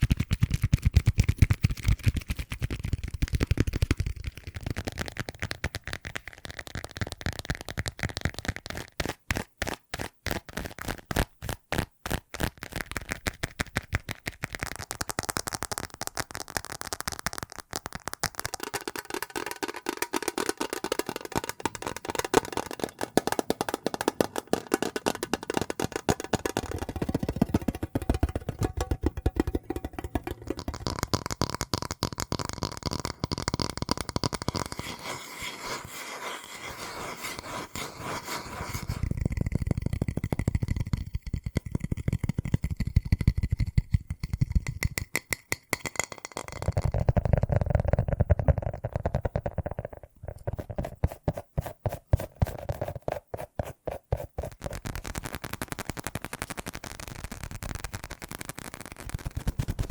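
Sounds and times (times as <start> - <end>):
tapping and scratching on objects: 0.0 - 59.9.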